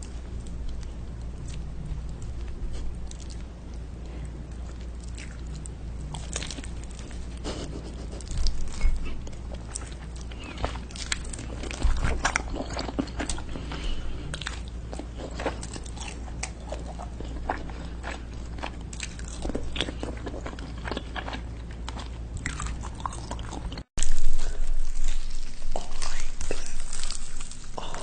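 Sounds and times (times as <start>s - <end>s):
biting and chewing crunches: 0.0s - 28.0s.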